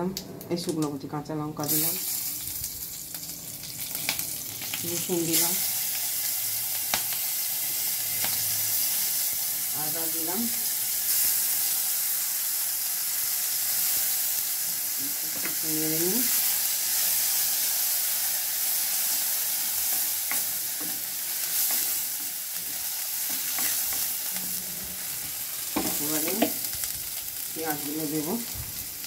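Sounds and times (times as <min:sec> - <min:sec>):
food sizzling in hot oil: 0:01.6 - 0:29.0.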